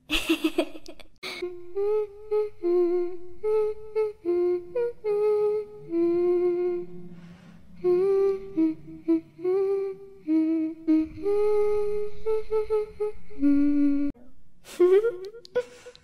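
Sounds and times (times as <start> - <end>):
girl humming: 1.2 - 16.0.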